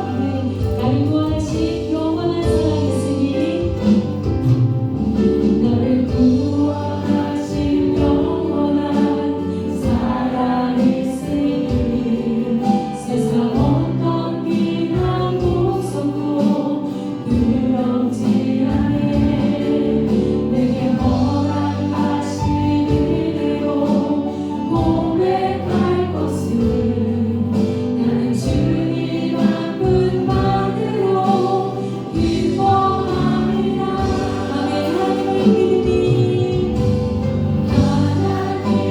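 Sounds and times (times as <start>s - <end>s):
worship band and choir singing: 0.0s - 38.9s.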